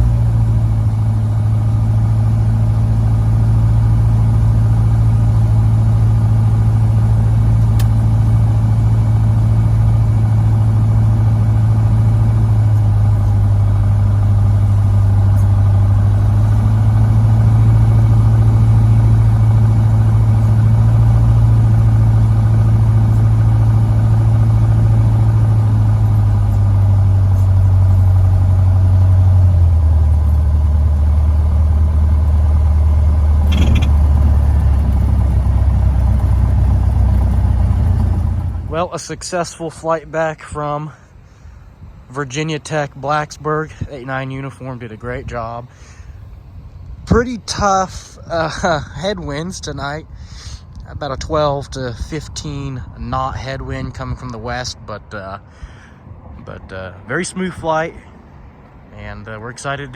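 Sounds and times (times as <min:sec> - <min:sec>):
aircraft engine running: 0:00.0 - 0:50.9.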